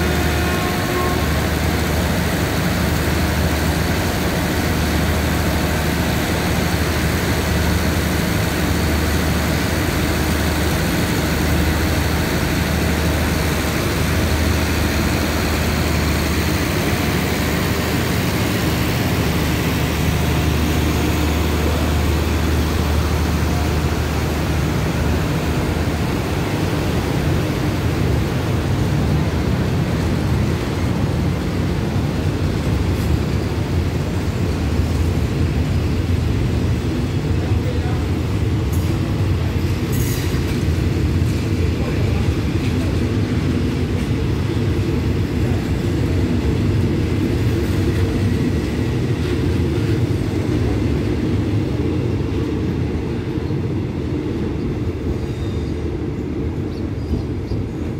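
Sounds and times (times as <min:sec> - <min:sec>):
train coaches rumbling past: 0:00.0 - 0:57.9.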